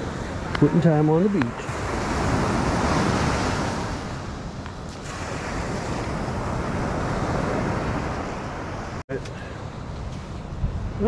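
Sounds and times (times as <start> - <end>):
ocean surf washing on beach: 0.0 - 11.0
wind on microphone: 0.0 - 11.0.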